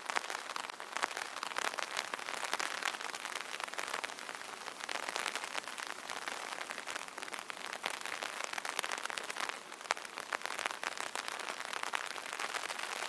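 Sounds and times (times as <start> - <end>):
rain pattering on umbrella: 0.0 - 13.0.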